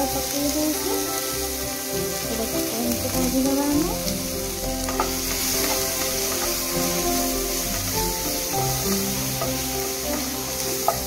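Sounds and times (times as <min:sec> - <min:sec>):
background music with melody: 0:00.0 - 0:11.0
potatoes and onion sizzling: 0:00.0 - 0:11.0.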